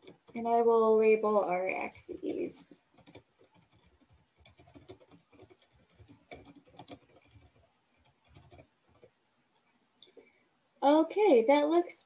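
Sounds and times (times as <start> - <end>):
faint keyboard typing: 0.0 - 10.4.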